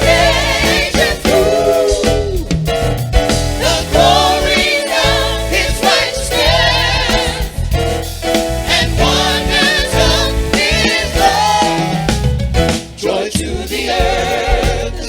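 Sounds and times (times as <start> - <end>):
band with bass line: 0.0 - 15.0
voices singing gospel: 0.0 - 15.0.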